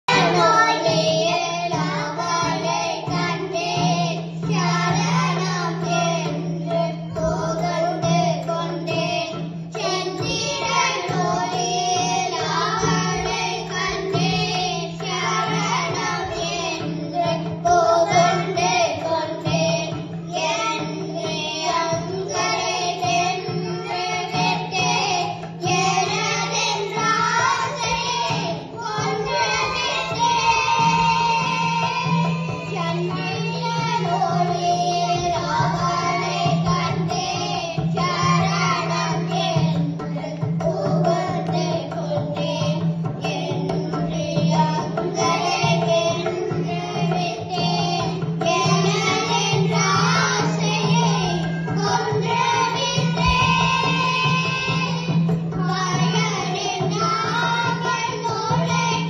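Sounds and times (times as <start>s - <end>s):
accompanying music: 0.0s - 59.0s
children singing into microphones: 0.0s - 59.0s.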